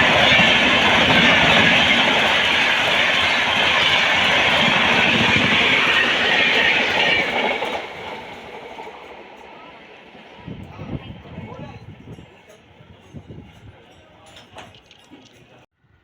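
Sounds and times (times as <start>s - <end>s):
train passing close by: 0.0s - 14.6s.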